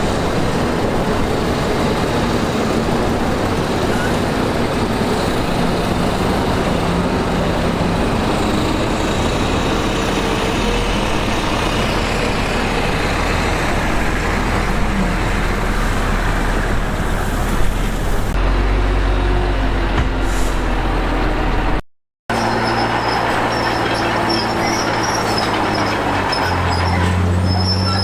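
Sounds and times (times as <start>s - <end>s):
diesel earthmoving machinery running: 0.0s - 28.0s.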